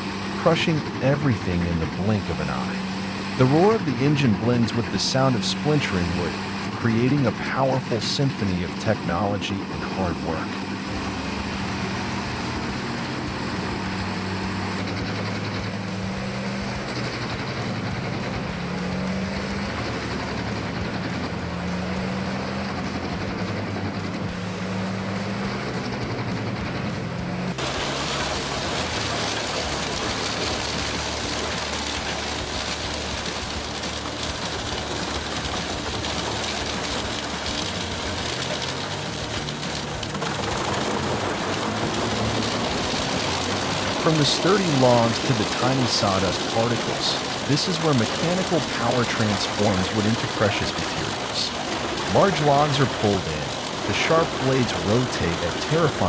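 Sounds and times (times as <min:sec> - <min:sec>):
diesel engine running with low hum: 0:00.0 - 0:56.0
machinery rushing and grinding: 0:00.0 - 0:56.0.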